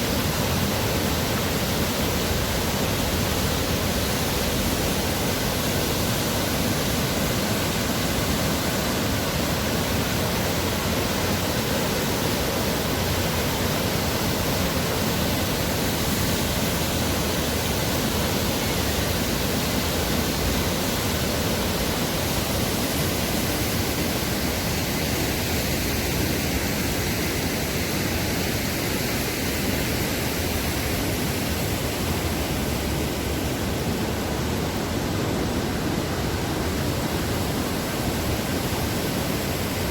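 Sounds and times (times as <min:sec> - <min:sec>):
water pouring down a waterfall: 0:00.0 - 0:39.9.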